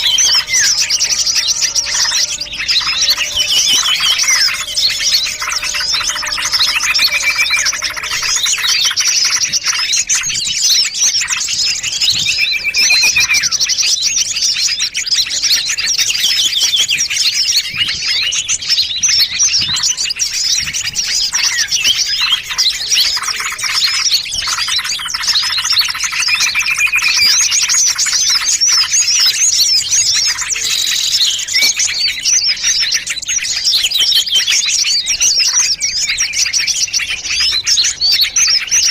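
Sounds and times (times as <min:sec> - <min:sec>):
small songbirds chirping and trilling: 0:00.0 - 0:38.9.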